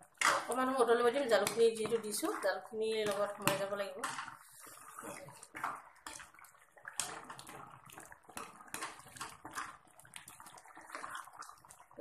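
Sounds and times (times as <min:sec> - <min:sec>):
ladle stirring sloshing liquid: 0:00.0 - 0:12.0.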